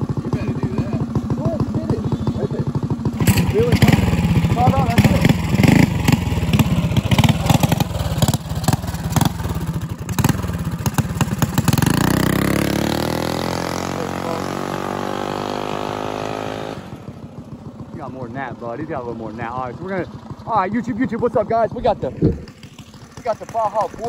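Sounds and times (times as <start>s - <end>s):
minibike engine revving with pops: 0.0s - 24.0s.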